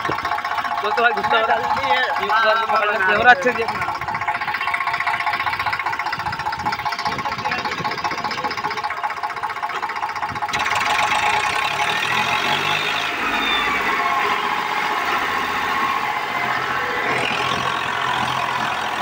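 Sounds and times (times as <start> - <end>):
tractor diesel engine revving: 0.0 - 19.0.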